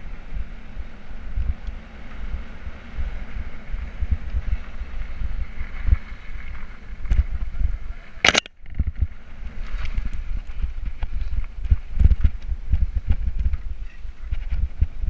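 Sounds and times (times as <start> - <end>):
bike rumble and rattle: 0.0 - 15.0
wind on microphone: 0.0 - 15.0.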